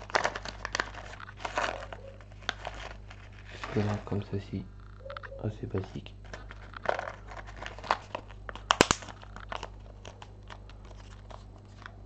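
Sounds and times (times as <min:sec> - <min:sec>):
paper pouch crinkling: 0:00.0 - 0:04.2, 0:05.9 - 0:12.0.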